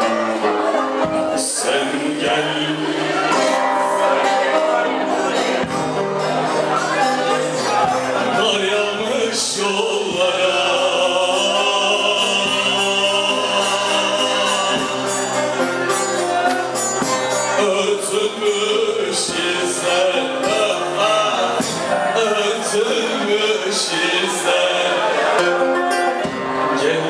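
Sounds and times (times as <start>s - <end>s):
man singing: 0.0s - 6.2s, 6.9s - 27.0s
long-necked lute playing: 0.0s - 27.0s.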